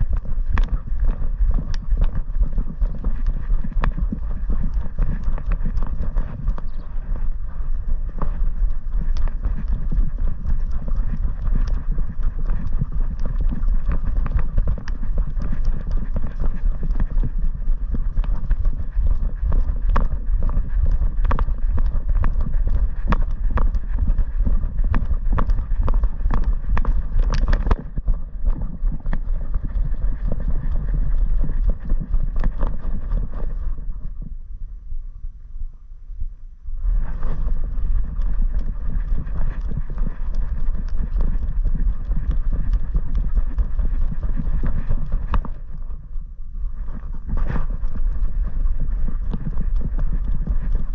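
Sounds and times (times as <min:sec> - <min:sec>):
rapid clicks: 0:00.0 - 0:33.6, 0:37.0 - 0:46.0
dog strides on grass: 0:00.0 - 0:33.9, 0:37.0 - 0:46.0.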